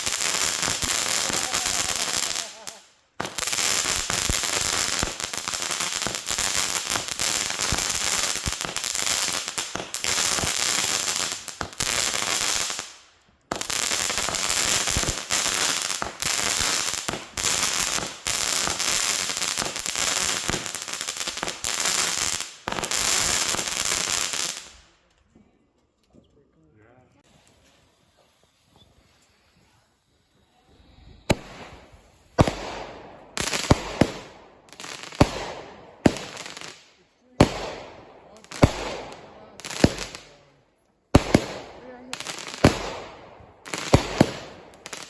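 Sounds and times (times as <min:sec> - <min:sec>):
fireworks crackling and banging: 0:00.0 - 0:25.4, 0:27.2 - 0:40.5, 0:41.1 - 0:45.0.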